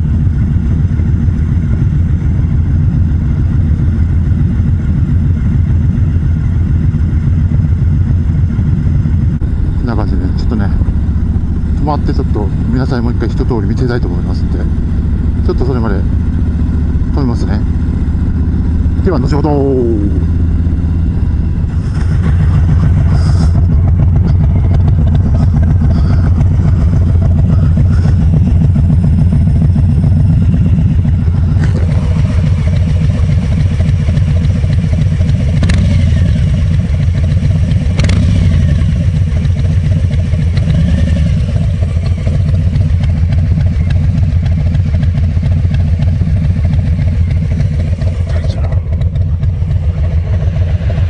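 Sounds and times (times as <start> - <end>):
motorcycle engine idling: 0.0 - 51.0.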